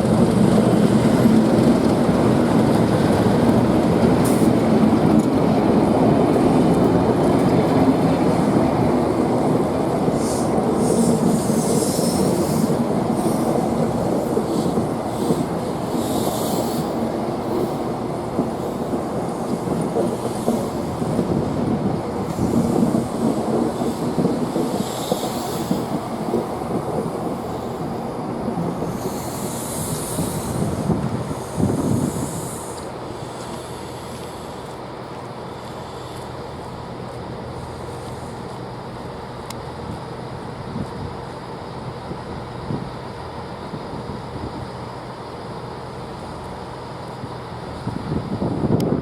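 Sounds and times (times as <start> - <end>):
freight train rumbling and clattering: 0.0 - 49.0.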